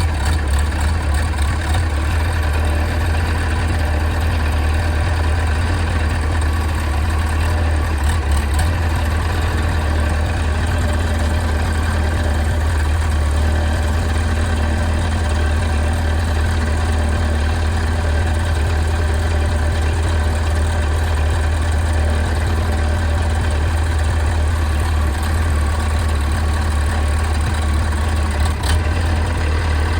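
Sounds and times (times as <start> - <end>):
backhoe engine droning: 0.0 - 29.9.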